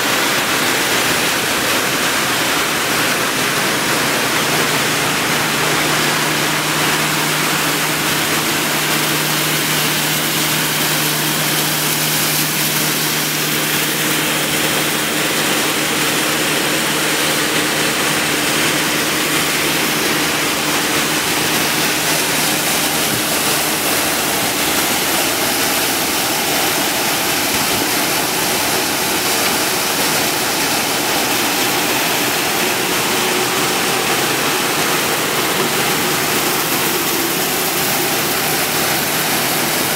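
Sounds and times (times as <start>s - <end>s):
loud machine noise: 0.0s - 39.9s
rushing water: 0.0s - 39.9s.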